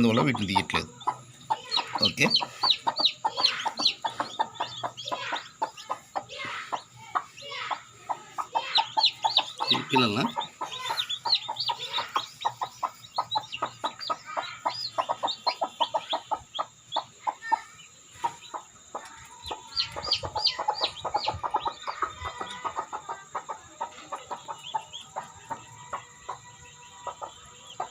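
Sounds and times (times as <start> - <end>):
chicks peeping: 0.0 - 27.9
hen clucking: 0.0 - 27.9.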